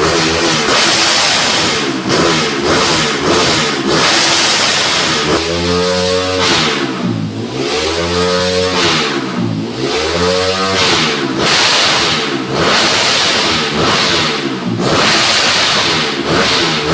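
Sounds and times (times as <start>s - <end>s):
motorbike engine revving: 0.0s - 16.9s.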